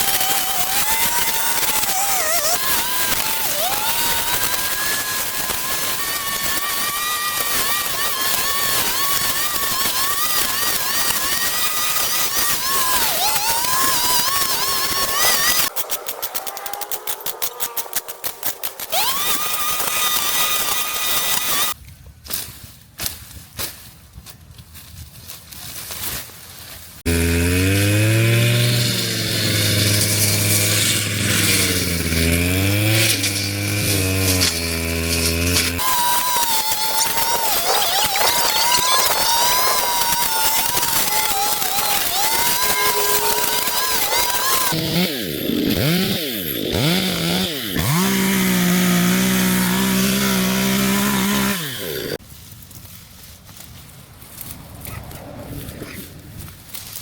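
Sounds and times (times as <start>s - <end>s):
garden power tool engine whining: 0.0s - 21.8s, 27.0s - 52.2s.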